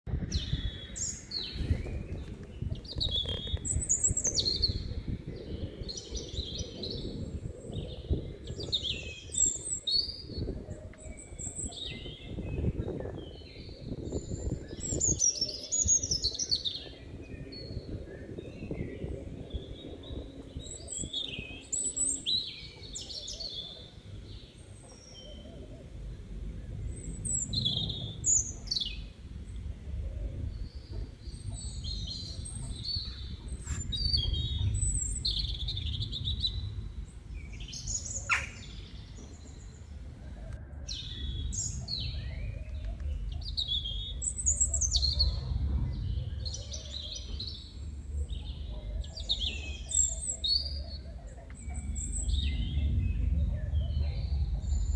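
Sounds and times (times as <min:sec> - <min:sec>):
small birds chirping: 0:00.1 - 0:54.9
steady low rumble: 0:00.1 - 0:54.9.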